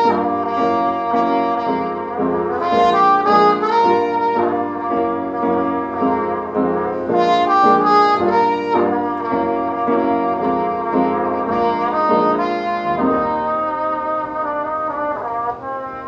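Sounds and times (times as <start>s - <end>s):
muted trumpet jazz melody: 0.0s - 16.0s
piano accompaniment: 0.0s - 16.0s.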